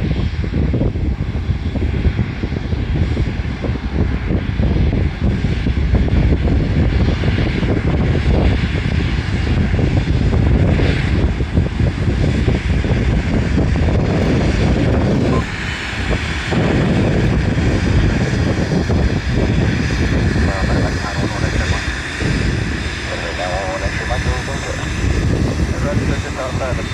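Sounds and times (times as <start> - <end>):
jet engines rumbling: 0.0 - 26.9.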